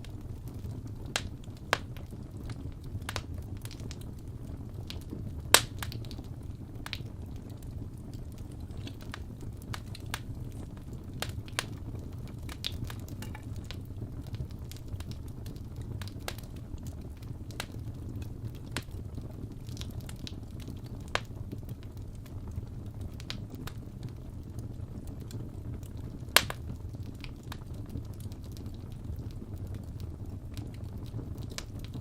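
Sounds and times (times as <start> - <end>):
fire crackling and popping: 0.0 - 32.0
low rumble of fire: 0.0 - 32.0.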